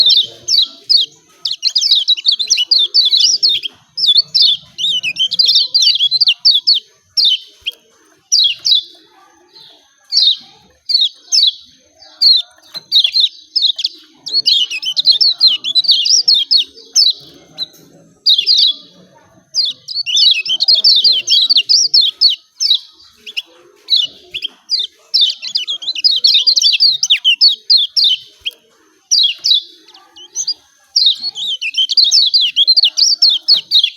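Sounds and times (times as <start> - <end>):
small songbird chirping rapidly: 0.0 - 33.9.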